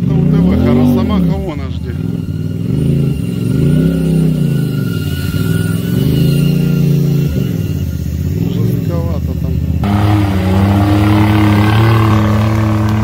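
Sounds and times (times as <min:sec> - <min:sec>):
off-road vehicle engine revving: 0:00.0 - 0:13.0
thin steady whine: 0:00.4 - 0:13.0.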